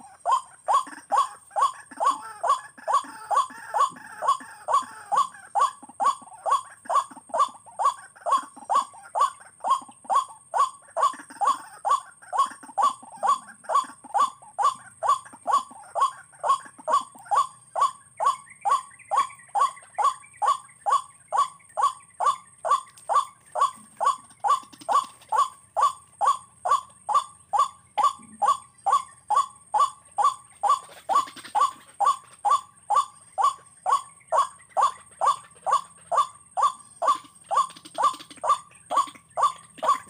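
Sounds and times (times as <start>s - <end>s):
bird calling repeated notes: 0.0s - 40.0s.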